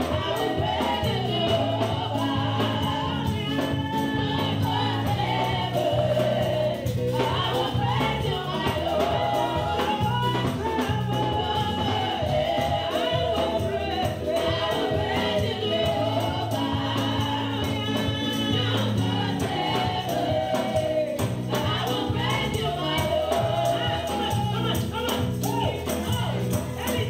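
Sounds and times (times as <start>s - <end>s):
congregation singing along: 0.0s - 27.0s
keyboard and bass: 0.0s - 27.0s
shaken percussion: 0.0s - 27.0s
women singing into microphones: 0.0s - 27.0s.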